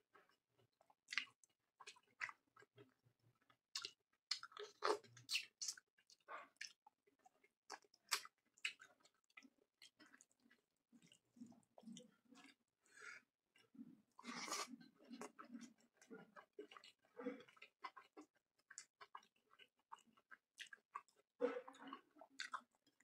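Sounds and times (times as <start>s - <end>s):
close chewing mouth sounds: 0.2s - 23.0s.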